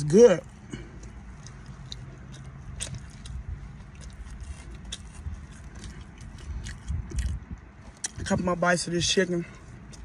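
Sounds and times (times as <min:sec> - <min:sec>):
person chewing and lip smacking: 0:00.3 - 0:08.4, 0:09.6 - 0:10.0.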